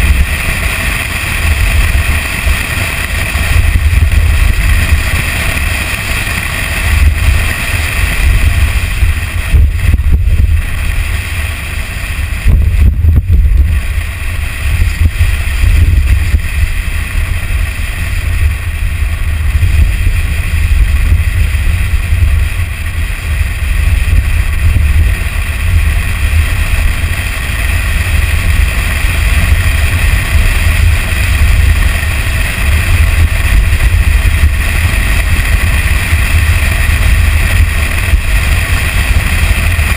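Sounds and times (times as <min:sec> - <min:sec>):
truck running with road noise: 0:00.0 - 0:39.9
wind buffeting a camera: 0:00.0 - 0:39.9.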